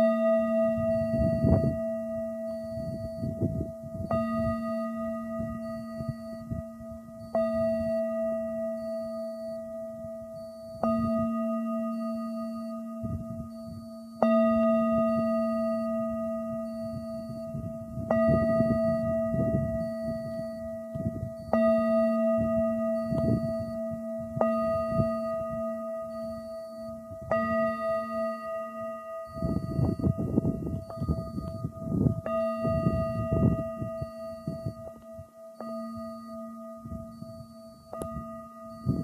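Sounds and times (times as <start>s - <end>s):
wind buffeting microphone: 0.0s - 8.1s, 12.8s - 28.2s, 29.3s - 39.0s.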